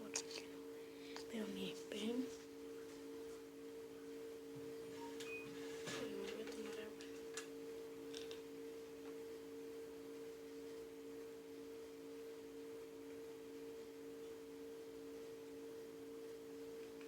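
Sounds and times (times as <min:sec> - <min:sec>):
low hum of two tones: 0:00.0 - 0:17.0.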